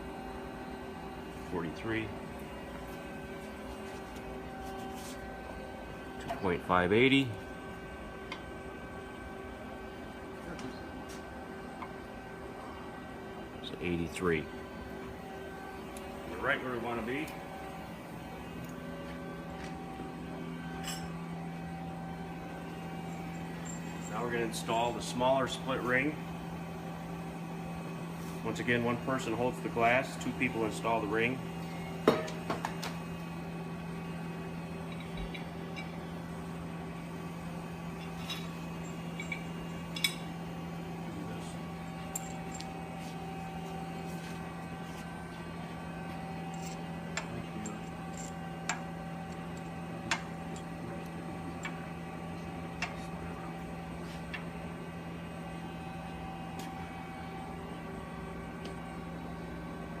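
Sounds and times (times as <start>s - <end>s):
low mechanical hum: 0.0s - 60.0s.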